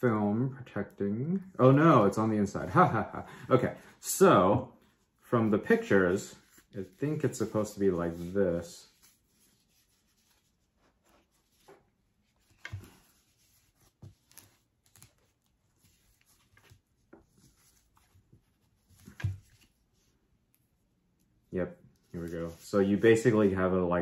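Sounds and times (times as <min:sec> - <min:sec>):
soft rubbing: 0:03.5 - 0:23.7.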